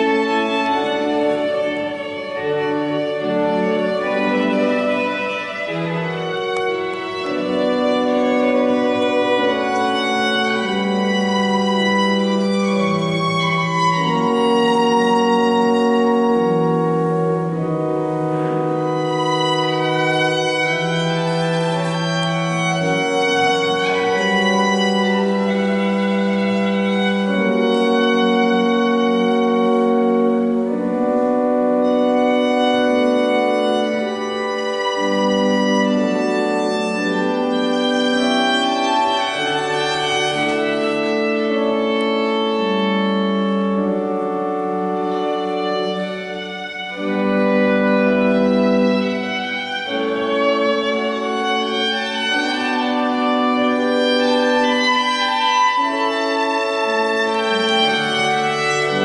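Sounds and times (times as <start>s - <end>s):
church organ chords: 0.0s - 59.0s
violin playing: 0.0s - 59.0s.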